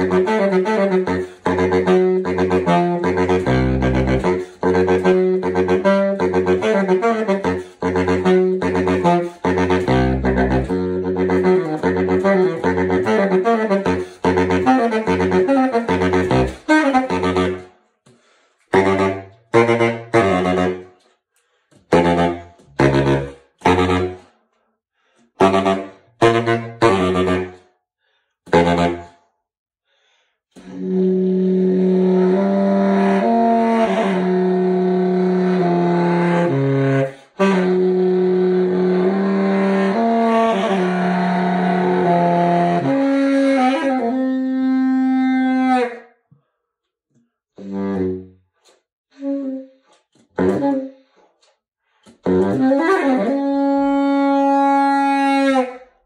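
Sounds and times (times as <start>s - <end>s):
baritone saxophone playing: 0.0s - 24.4s, 25.4s - 27.7s, 28.5s - 29.2s, 30.6s - 46.2s, 47.6s - 51.3s, 51.9s - 56.0s.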